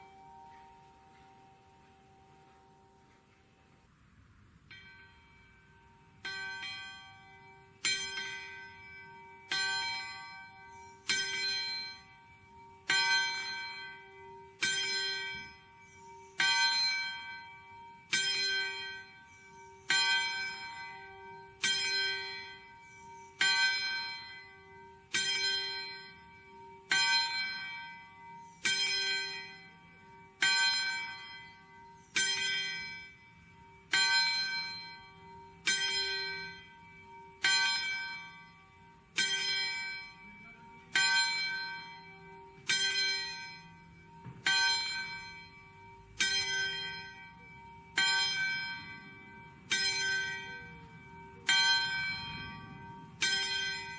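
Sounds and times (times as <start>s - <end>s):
church bell tolling: 0.0s - 3.2s, 4.7s - 53.9s.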